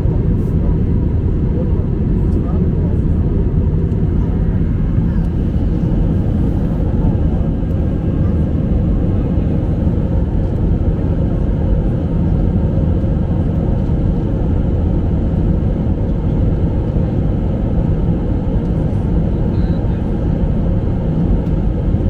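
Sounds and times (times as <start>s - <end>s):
jet cabin engine rumble: 0.0s - 22.0s.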